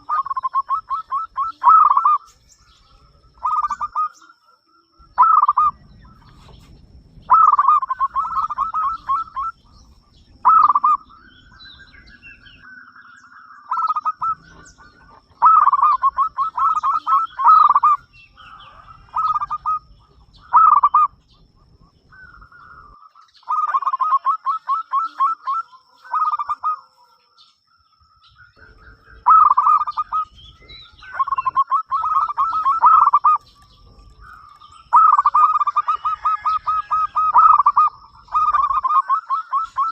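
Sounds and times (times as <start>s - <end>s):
dove cooing: 0.0s - 27.2s, 28.2s - 39.9s.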